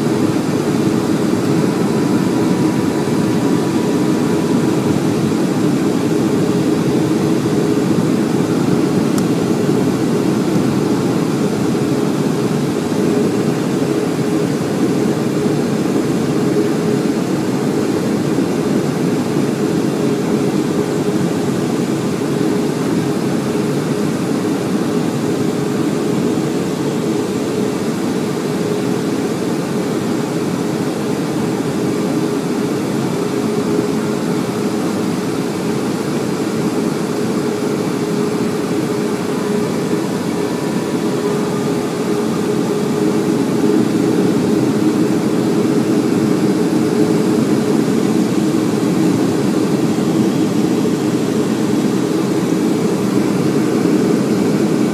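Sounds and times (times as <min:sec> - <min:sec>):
jet engines roaring in cabin: 0:00.0 - 0:54.9.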